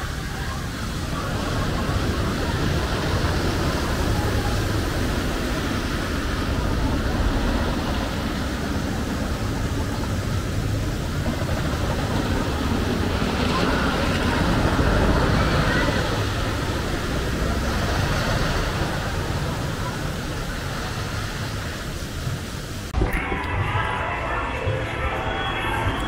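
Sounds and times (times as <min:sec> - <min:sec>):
roller coaster rumbling on wooden track: 0:00.0 - 0:26.0.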